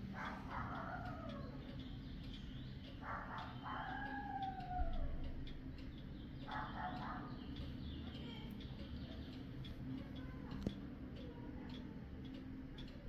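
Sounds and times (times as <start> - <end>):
pendulum wall clock ticking: 0.0 - 13.0.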